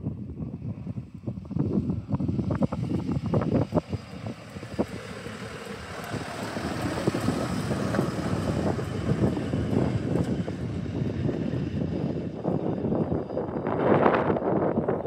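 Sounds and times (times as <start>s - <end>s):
wind buffeting microphone: 0.0s - 15.0s
truck engine: 1.0s - 15.0s
wheels on rails: 1.3s - 15.0s.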